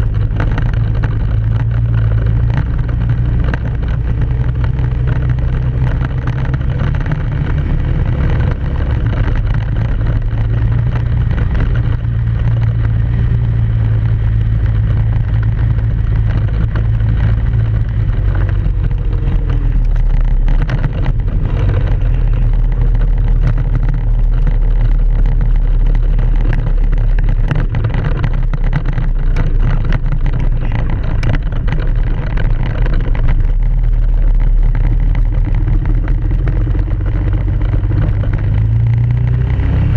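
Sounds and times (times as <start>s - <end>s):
atv engine running: 0.0s - 39.9s
knocks and rattles: 0.0s - 39.9s.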